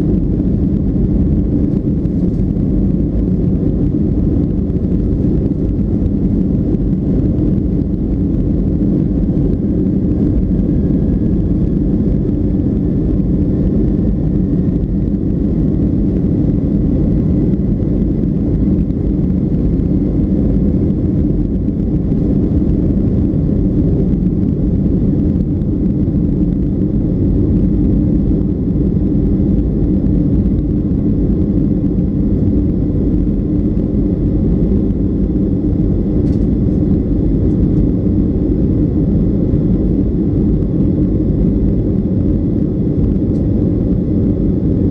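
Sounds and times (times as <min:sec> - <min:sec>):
jet engine rumble inside cabin: 0:00.0 - 0:44.9.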